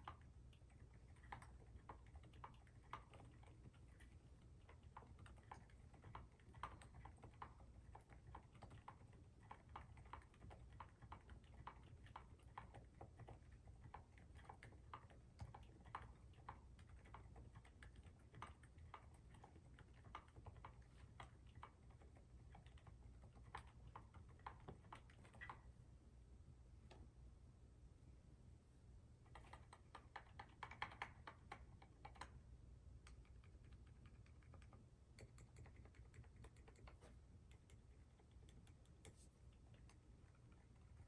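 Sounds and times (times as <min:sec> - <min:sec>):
soft muted keyboard keystrokes: 0:00.0 - 0:25.8, 0:29.2 - 0:32.4, 0:33.0 - 0:41.0
faint low hum: 0:00.0 - 0:41.0.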